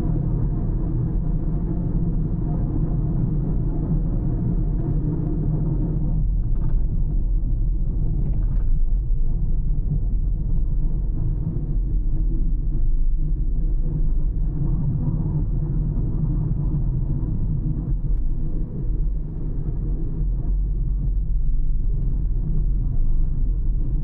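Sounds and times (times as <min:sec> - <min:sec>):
tyre road rumble: 0:00.0 - 0:24.0.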